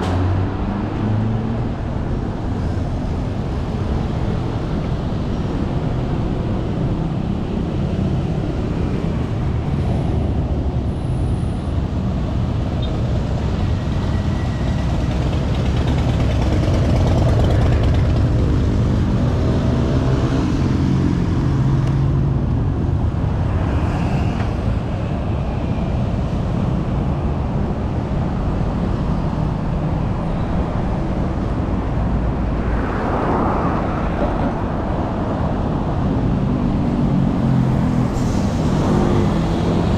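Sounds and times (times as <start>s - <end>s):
rumble of passing cars: 0.0s - 39.9s.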